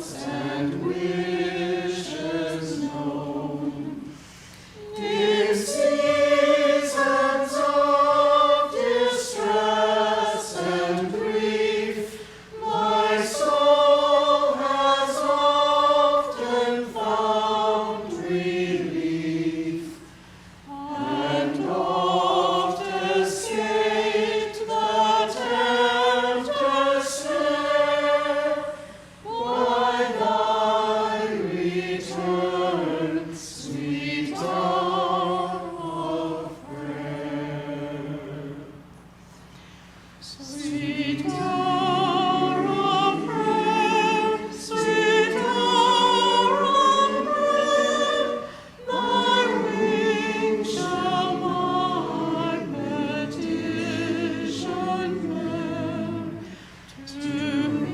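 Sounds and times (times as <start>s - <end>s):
church choir singing: 0.0s - 39.0s, 40.2s - 57.9s.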